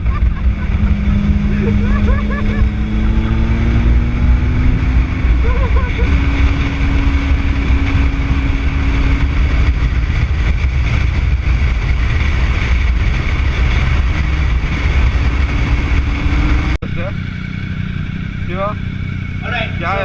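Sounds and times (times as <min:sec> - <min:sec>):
wind rushing on microphone: 0:00.0 - 0:16.8
motorcycle engine running: 0:00.0 - 0:20.0.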